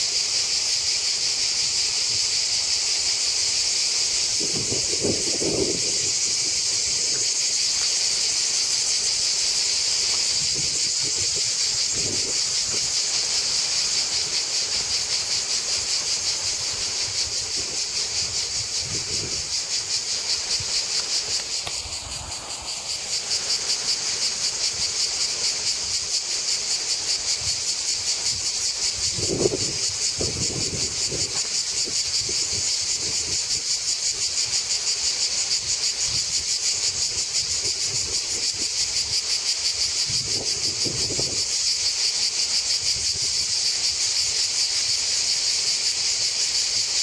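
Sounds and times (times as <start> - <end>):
cicadas singing: 0.0 - 47.0.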